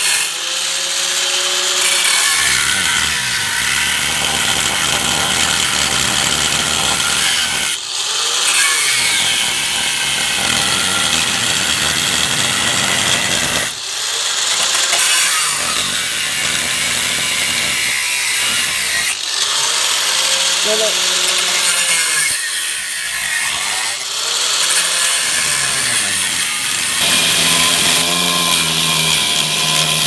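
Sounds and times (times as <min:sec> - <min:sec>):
angle grinder grinding steel: 0:00.0 - 0:30.0.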